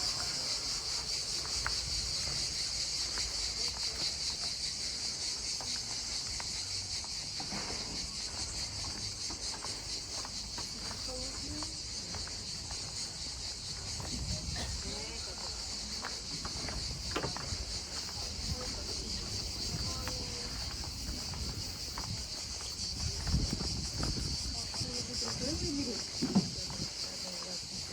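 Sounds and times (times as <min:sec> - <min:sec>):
distant voices: 0:00.0 - 0:27.9
high-pitched insect chorus: 0:00.0 - 0:27.9.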